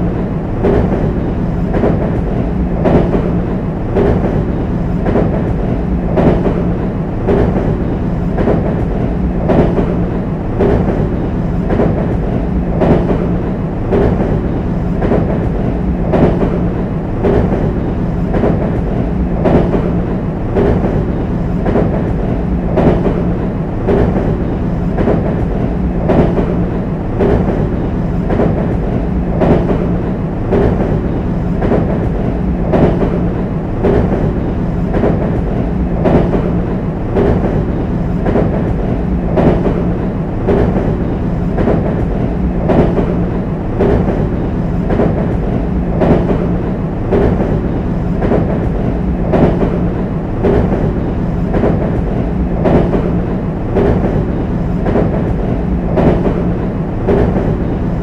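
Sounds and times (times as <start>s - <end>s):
train running rumble and hum: 0.0s - 58.0s
train wheels clattering over rail joints: 0.0s - 58.0s.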